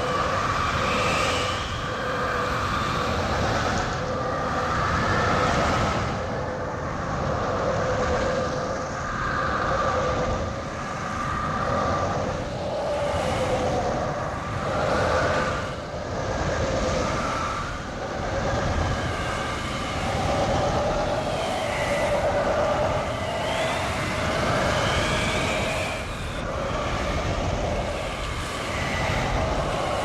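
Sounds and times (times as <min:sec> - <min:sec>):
howling wind roar: 0:00.0 - 0:30.0.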